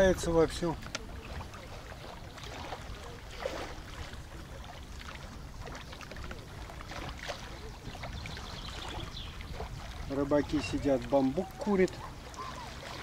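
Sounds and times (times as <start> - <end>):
distant people swimming: 0.0 - 13.0
water lapping: 0.0 - 13.0
wind rumble on microphone: 0.0 - 13.0.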